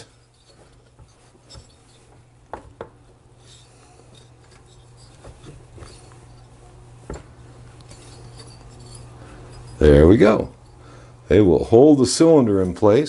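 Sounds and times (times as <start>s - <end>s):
metal nuts clicking and rubbing: 0.0s - 11.0s
low steady hum: 0.0s - 13.0s.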